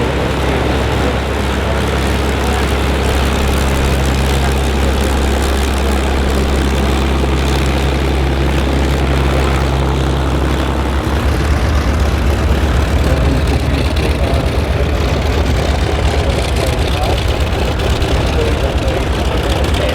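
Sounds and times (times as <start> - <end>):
propeller aircraft engine droning: 0.0 - 19.9.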